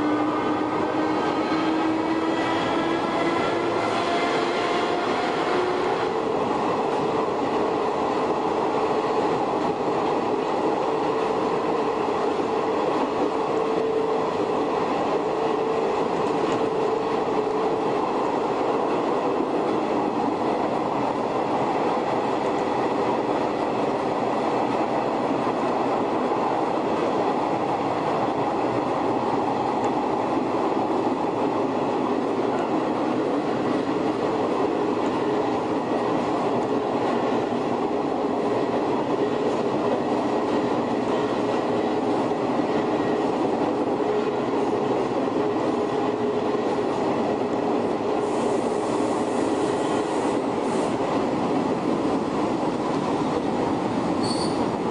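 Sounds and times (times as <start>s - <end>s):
wheel-on-rail noise: 0.0s - 54.9s.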